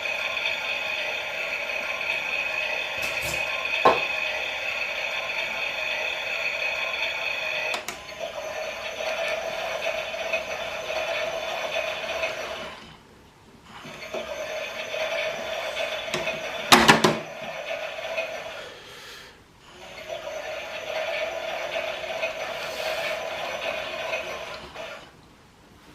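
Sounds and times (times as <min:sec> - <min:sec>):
toy washing machine motor whirring: 0:00.0 - 0:25.2.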